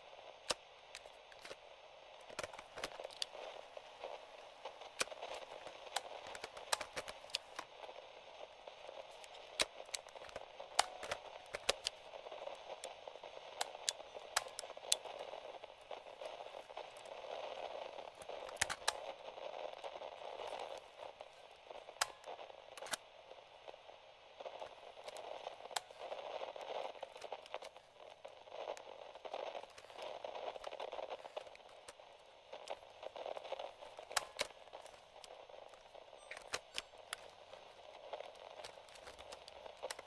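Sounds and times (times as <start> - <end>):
radio static hiss: 0.0 - 40.0
static crackles and pops: 0.0 - 40.0.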